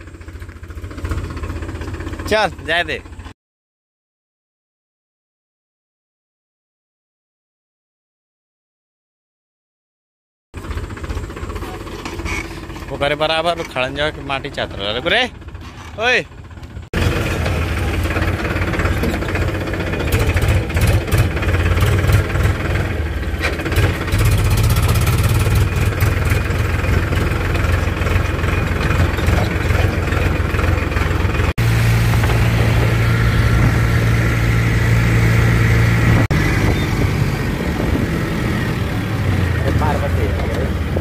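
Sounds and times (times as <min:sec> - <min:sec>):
tractor diesel engine running: 0:00.0 - 0:03.4, 0:10.6 - 0:41.0.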